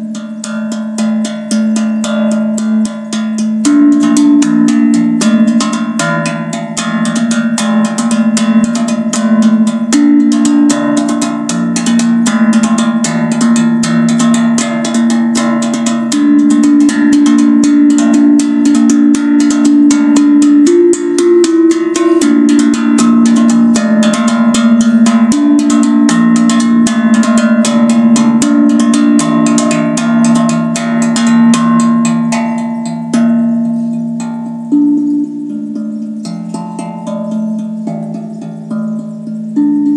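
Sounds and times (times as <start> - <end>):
steel tongue drum played fast: 0.0 - 39.9.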